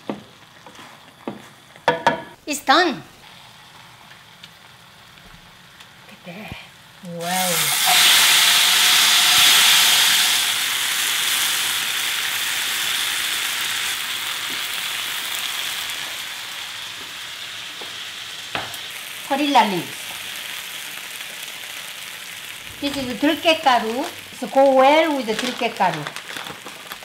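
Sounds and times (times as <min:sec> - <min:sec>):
sausage sizzling in a pot: 0:00.0 - 0:27.0.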